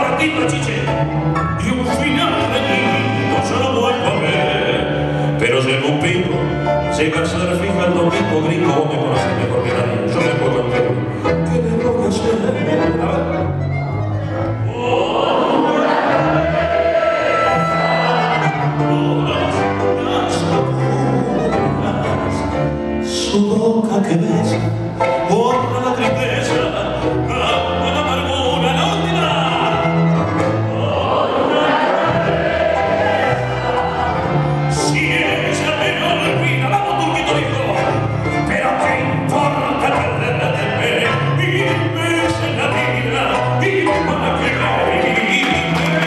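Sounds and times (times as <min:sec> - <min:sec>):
man singing tango: 0:00.0 - 0:16.0, 0:17.4 - 0:31.4, 0:34.2 - 0:46.0
bandoneon chords: 0:00.0 - 0:46.0.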